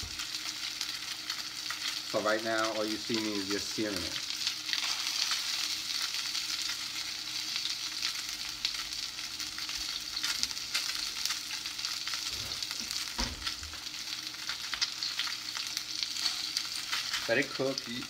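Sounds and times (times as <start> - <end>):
fish sizzling in a frying pan: 0.0 - 18.0.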